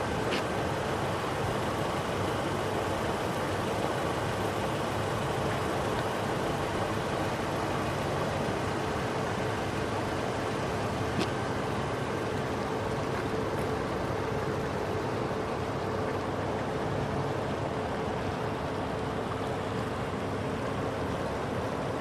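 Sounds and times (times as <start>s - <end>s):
creek rushing: 0.0s - 22.0s.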